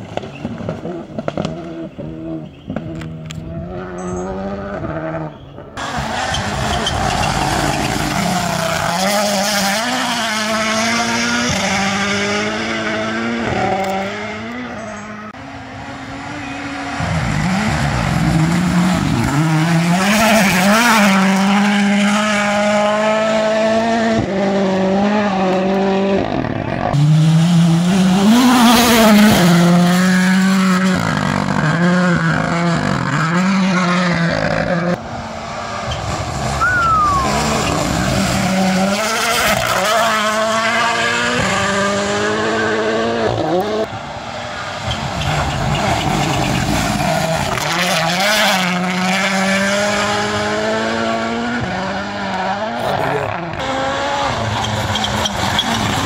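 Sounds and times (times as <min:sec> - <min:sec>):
rally cars passing at speed: 0:00.0 - 0:56.0.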